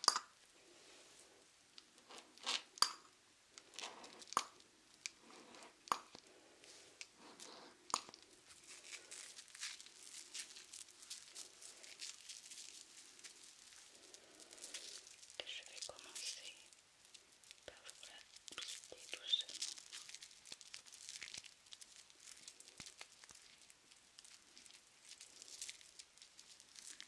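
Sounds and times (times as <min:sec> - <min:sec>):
soft rustling: 0:00.4 - 0:02.7, 0:03.6 - 0:27.0.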